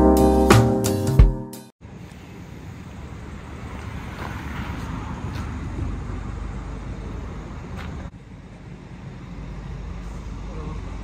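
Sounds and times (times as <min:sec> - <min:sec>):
diesel engine rumbling: 0:01.8 - 0:11.0.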